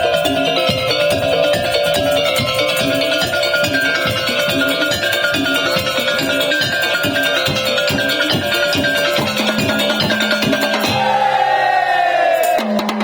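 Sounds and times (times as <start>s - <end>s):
struck pitched notes melody: 0.0s - 11.2s
drum beats: 0.0s - 13.0s.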